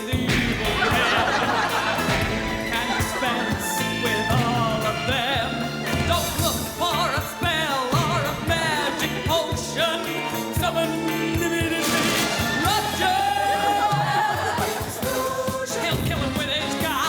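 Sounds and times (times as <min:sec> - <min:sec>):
backing band with steady beat: 0:00.0 - 0:17.0
person singing: 0:00.0 - 0:17.0.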